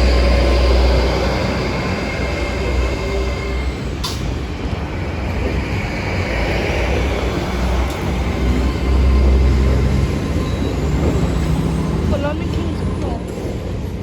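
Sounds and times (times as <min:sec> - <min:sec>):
train rumbling slowly: 0:00.0 - 0:14.0.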